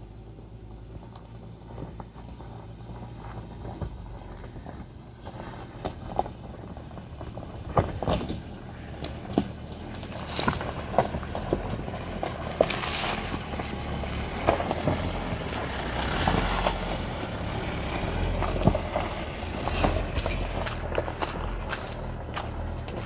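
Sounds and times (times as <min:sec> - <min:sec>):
tires crunching over gravel: 0:00.0 - 0:23.0
vehicle engine running low: 0:00.0 - 0:23.0
stones popping under tires: 0:00.1 - 0:23.0.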